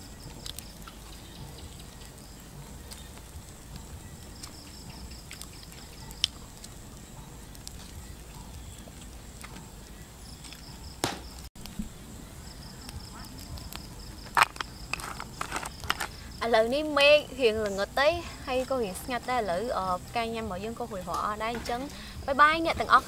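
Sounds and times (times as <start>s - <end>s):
campfire crackling and popping: 0.0s - 23.0s
high insect drone: 0.0s - 23.0s
insects chirping: 0.0s - 23.0s.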